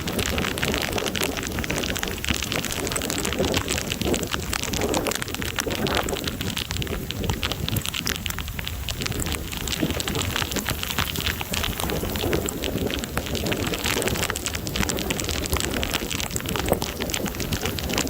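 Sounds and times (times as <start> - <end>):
heavy rain drops: 0.0 - 18.0.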